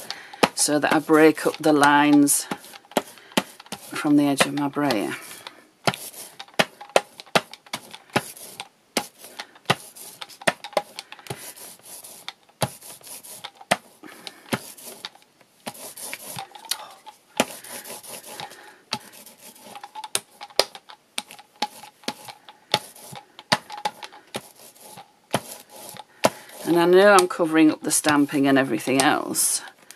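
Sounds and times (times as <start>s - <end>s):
paint brayer rolling through paint: 0.0s - 29.6s.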